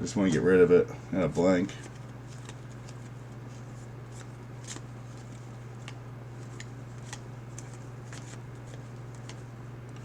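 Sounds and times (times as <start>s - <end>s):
steady low hum: 0.0s - 10.0s
trading cards swishing: 1.8s - 10.0s.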